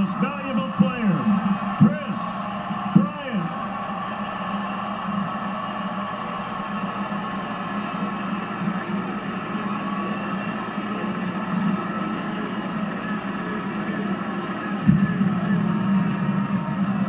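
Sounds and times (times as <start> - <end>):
crowd murmur: 1.0 - 17.0.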